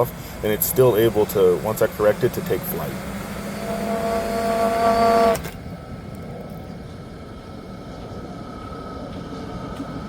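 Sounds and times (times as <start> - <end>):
drone motors and propellers whining: 0.0 - 10.0.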